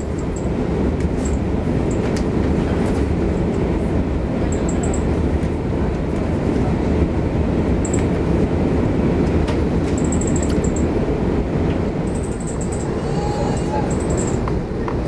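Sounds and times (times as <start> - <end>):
aircraft engines idling: 0.0 - 15.0
wheels rolling on taxiway: 0.0 - 15.0.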